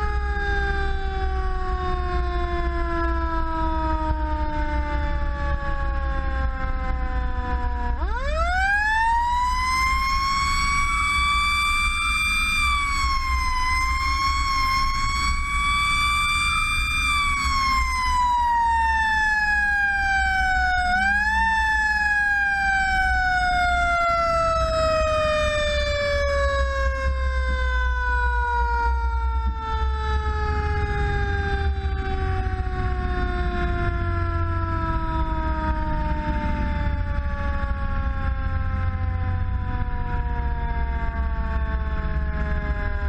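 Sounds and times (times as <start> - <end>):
fire engine siren wailing: 0.0 - 43.0
truck engine and road noise: 0.0 - 43.0.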